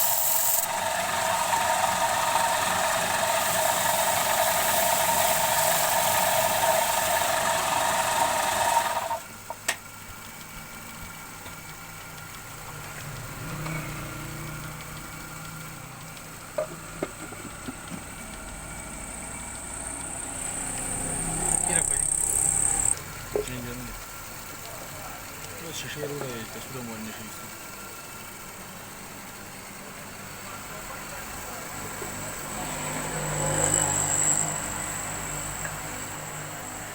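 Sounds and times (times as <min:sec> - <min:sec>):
lathe motor whining: 0:00.0 - 0:09.3, 0:10.2 - 0:36.9.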